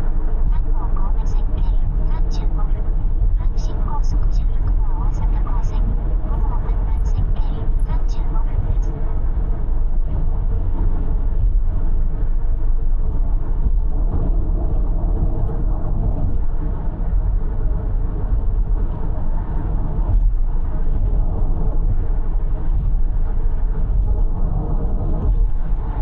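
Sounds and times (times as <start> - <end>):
car driving at speed: 0.0 - 26.0.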